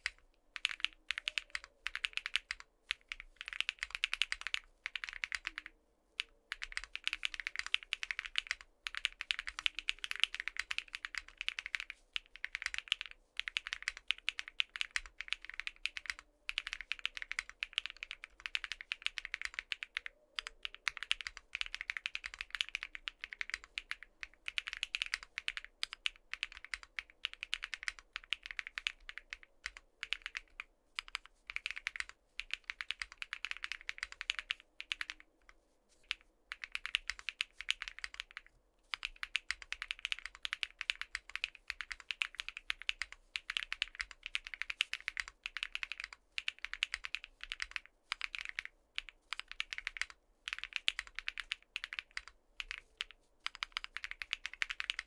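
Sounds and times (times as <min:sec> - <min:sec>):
fast keyboard typing: 0:00.0 - 0:35.3, 0:36.0 - 0:55.0.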